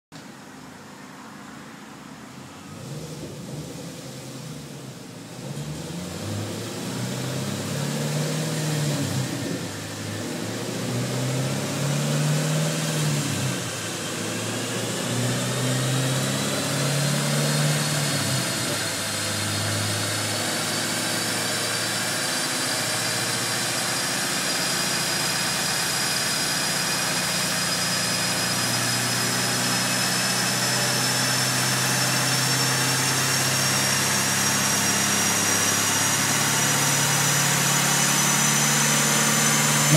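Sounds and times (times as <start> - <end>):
high whine of spinning tyres: 0.2 - 39.9
car engine revving: 2.5 - 39.9.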